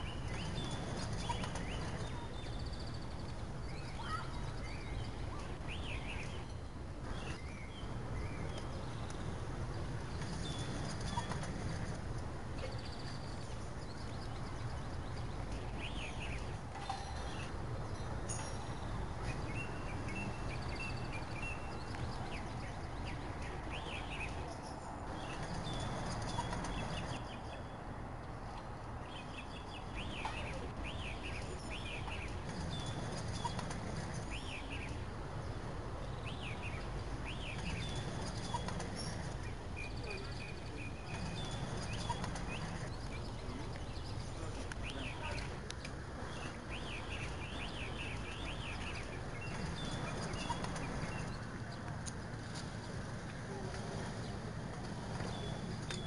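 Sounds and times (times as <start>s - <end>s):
city traffic hum: 0.0s - 56.0s
songbirds chirping: 0.0s - 56.0s.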